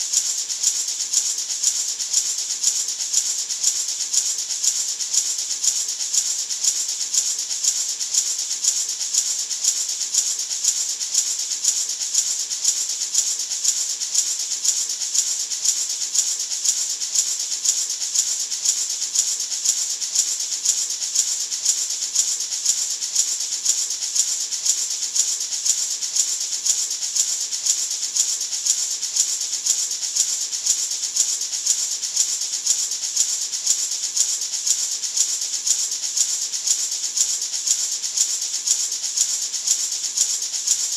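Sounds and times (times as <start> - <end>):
gourd maraca rattling: 0.0 - 40.9.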